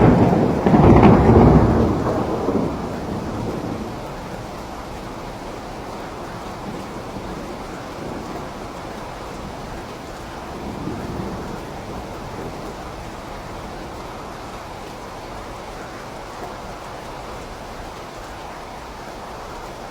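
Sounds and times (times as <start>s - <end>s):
low thunder rumble: 0.0s - 16.1s
steady rain: 0.0s - 19.9s.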